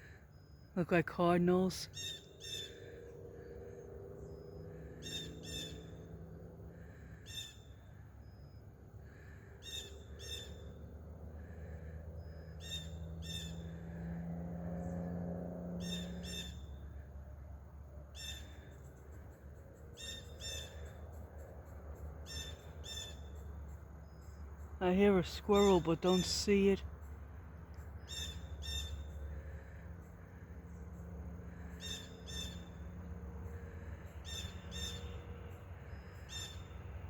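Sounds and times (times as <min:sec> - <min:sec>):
birds chip calls: 0:01.5 - 0:14.2, 0:15.8 - 0:17.1, 0:18.1 - 0:27.2, 0:27.8 - 0:37.0.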